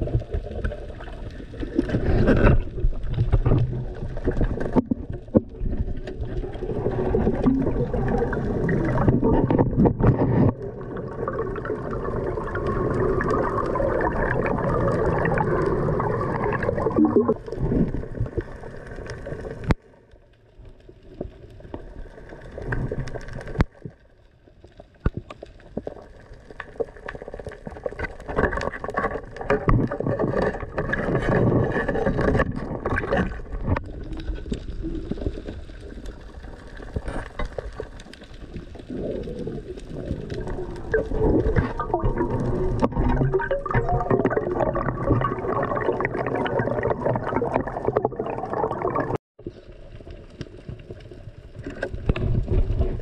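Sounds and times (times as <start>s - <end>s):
muffled underwater sloshing: 0.0s - 20.1s, 20.7s - 53.0s.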